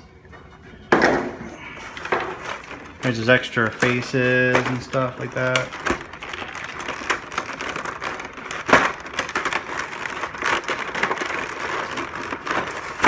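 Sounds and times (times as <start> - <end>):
sharp plastic crack: 0.9 - 13.0
plastic packaging crinkling: 1.6 - 13.0.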